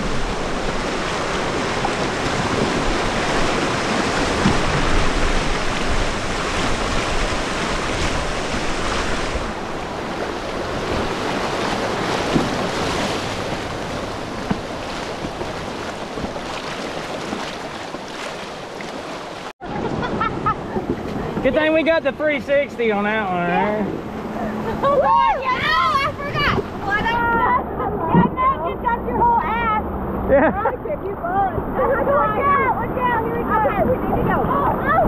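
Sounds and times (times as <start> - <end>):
whitewater rushing and splashing: 0.0 - 35.0.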